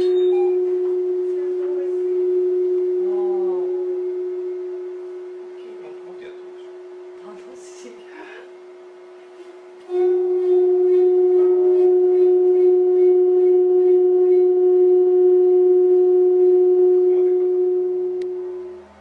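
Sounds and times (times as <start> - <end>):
vibrating metal plate tone: 0.0 - 19.0.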